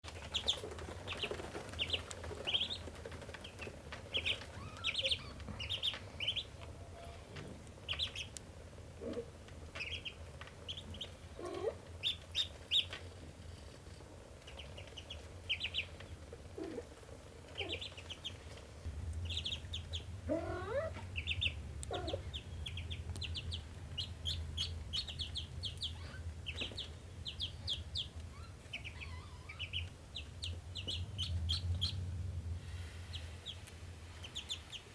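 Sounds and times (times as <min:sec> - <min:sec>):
ducklings peeping: 0:00.1 - 0:34.9
steady low hum: 0:00.1 - 0:34.9.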